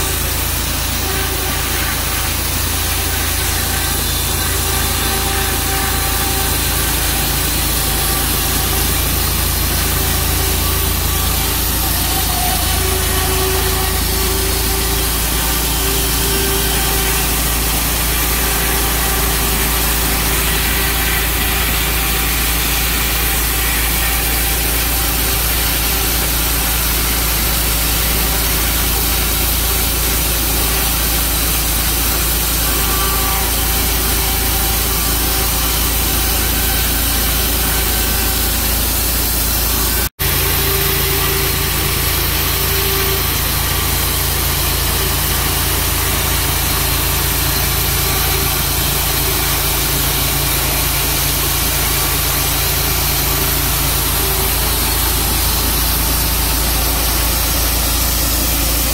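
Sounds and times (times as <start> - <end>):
sawmill engine humming: 0.0 - 58.9.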